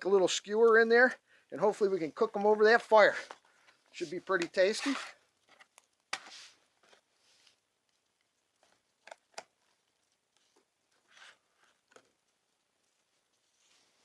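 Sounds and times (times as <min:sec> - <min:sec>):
soft rustle: 0:00.2 - 0:09.0, 0:09.6 - 0:14.0.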